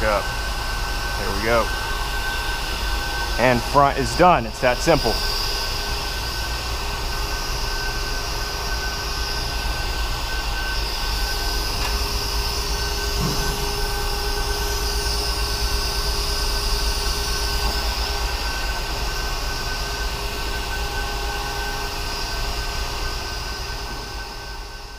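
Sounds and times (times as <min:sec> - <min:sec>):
mechanical whirring hum: 0:00.0 - 0:24.9.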